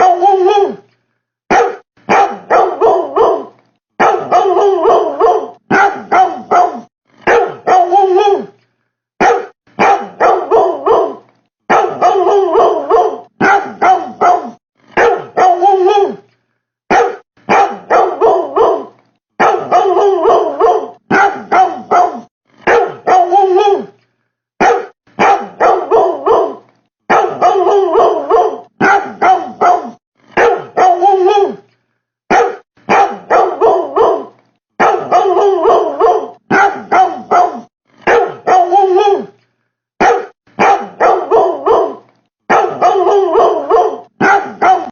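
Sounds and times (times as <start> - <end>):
barking woofs: 0.0 - 0.8, 1.5 - 8.6, 9.2 - 16.2, 16.9 - 24.0, 24.6 - 31.6, 32.3 - 39.4, 40.0 - 44.9.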